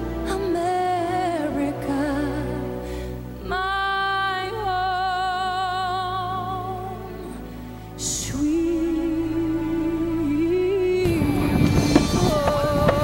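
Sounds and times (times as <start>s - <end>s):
music accompaniment: 0.0s - 13.0s.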